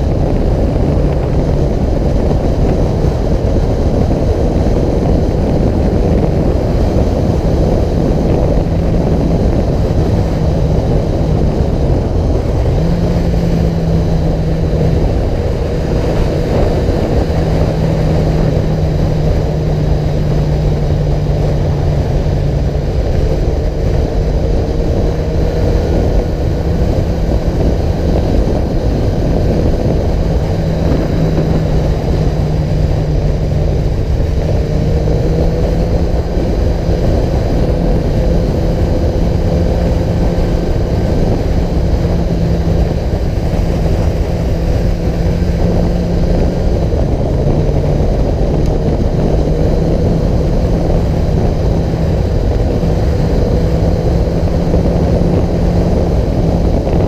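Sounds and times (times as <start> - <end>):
road and wind noise: 0.0 - 57.0
vehicle engine cruising: 0.0 - 57.0.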